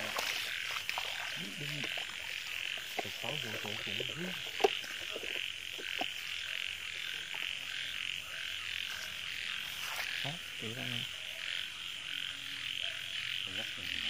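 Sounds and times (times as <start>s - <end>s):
frog croaks: 0.0s - 14.0s
frogs calling in chorus: 0.0s - 14.0s.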